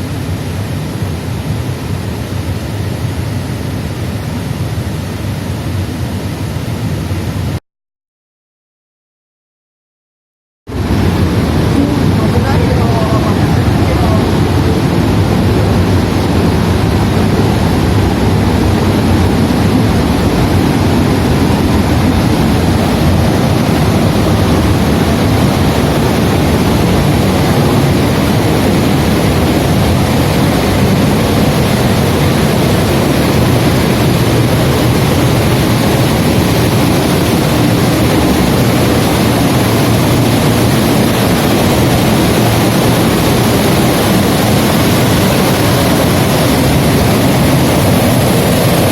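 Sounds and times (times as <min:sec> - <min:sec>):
water rushing over a dam: 0:00.0 - 0:07.6, 0:10.7 - 0:48.9.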